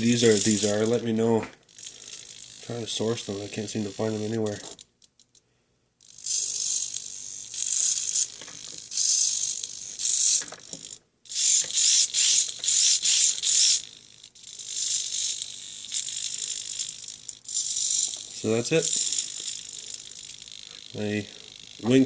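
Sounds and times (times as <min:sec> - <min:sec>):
servos whirring: 0:00.0 - 0:05.3, 0:06.0 - 0:22.0.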